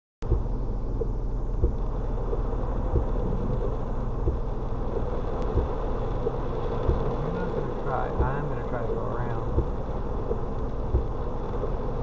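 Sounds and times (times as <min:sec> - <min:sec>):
car engine low hum: 0:00.2 - 0:12.0
rain tapping on windshield and roof: 0:00.2 - 0:12.0.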